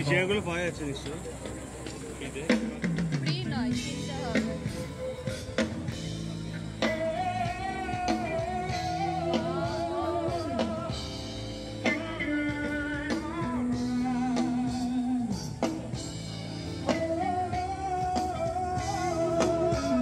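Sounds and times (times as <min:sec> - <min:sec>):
drums: 0:00.0 - 0:20.0.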